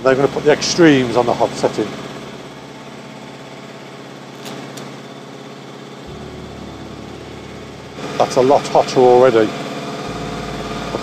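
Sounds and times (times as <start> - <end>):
deep low hum: 0.0 - 11.0
motorcycle engine idling: 0.0 - 11.0.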